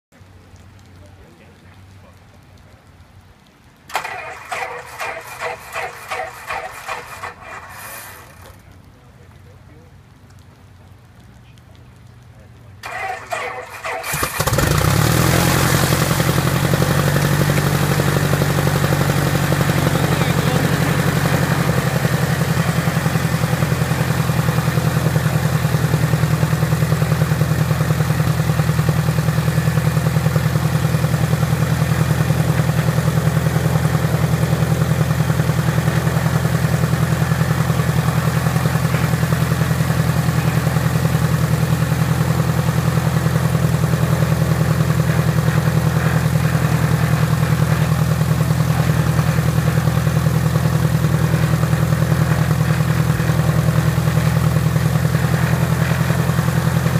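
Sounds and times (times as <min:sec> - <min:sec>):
piston aircraft engine running: 0:03.9 - 0:08.9, 0:12.8 - 0:56.9.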